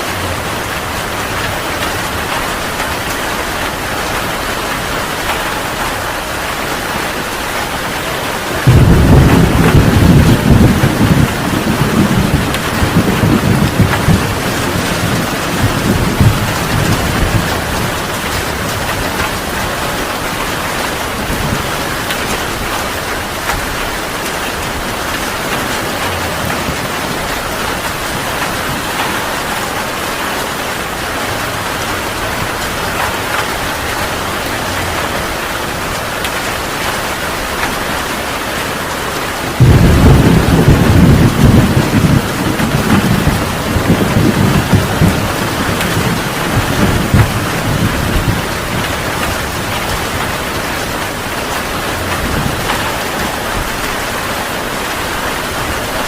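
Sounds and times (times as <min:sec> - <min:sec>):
thunder rumble: 0:00.0 - 0:38.2, 0:39.4 - 0:56.0
heavy rain falling: 0:00.0 - 0:56.0.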